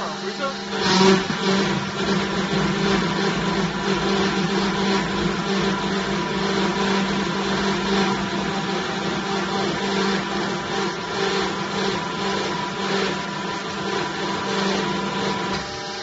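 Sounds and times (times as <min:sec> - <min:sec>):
hydraulic baler motor humming: 0:00.0 - 0:16.0.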